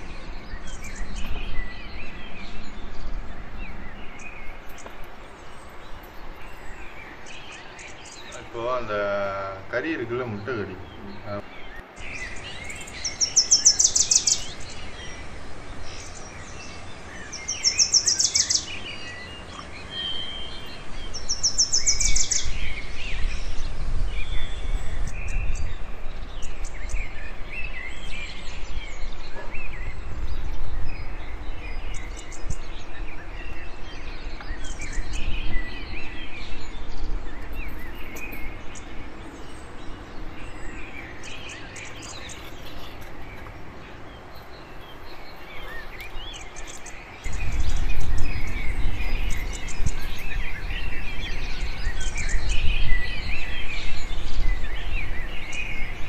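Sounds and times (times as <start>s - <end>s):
birds chirping and calling: 0.0s - 56.0s
outdoor background hiss and rumble: 0.0s - 56.0s.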